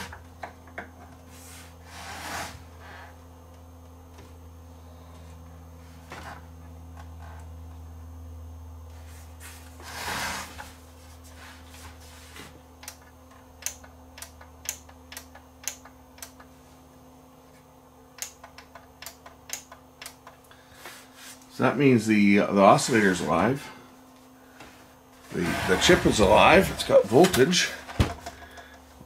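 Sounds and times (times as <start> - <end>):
television electrical hum: 0.0 - 29.0.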